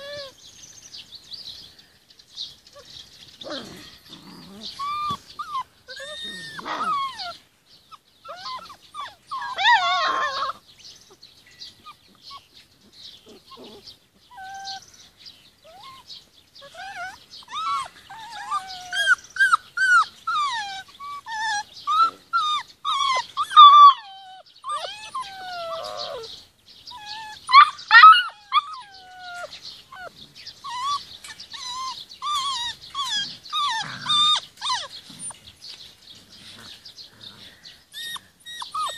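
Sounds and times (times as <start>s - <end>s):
puppies whining and whimpering: 0.0s - 0.4s, 2.7s - 10.7s, 13.2s - 14.9s, 15.6s - 38.9s.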